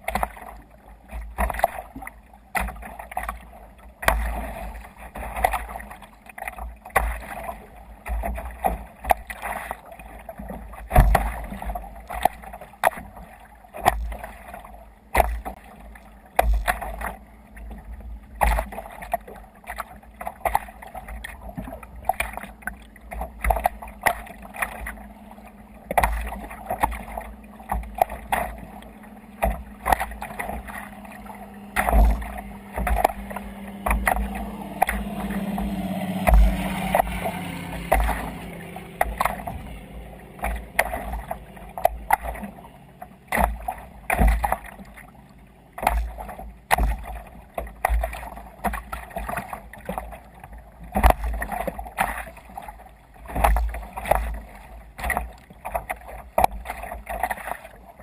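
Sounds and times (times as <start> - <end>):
rushing wash of water: 0.0 - 58.0
waves slapping against kayak hull: 0.0 - 58.0.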